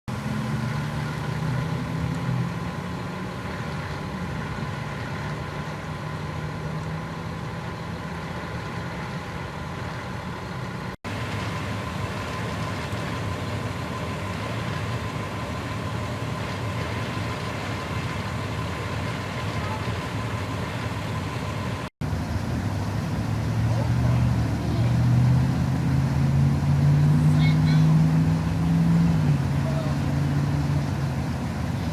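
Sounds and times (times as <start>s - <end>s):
vehicle engine idling: 0.1s - 31.9s.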